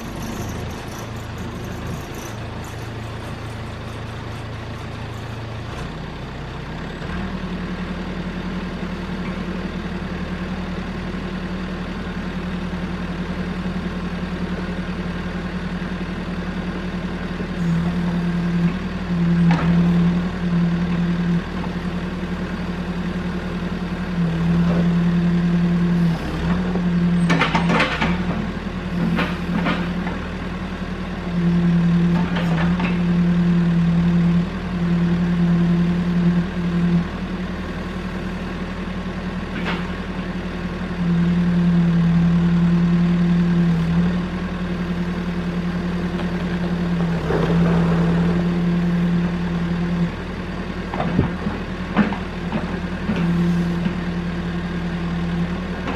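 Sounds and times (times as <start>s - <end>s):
backhoe diesel engine running: 0.0s - 55.9s.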